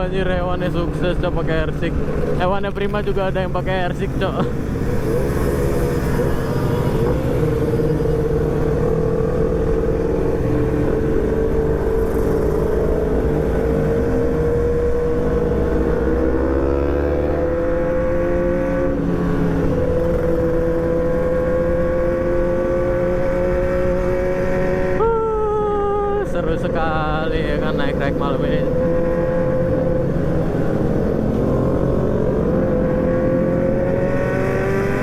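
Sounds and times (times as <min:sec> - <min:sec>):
motorcycle engine at high revs: 0:00.0 - 0:25.2, 0:25.8 - 0:35.0.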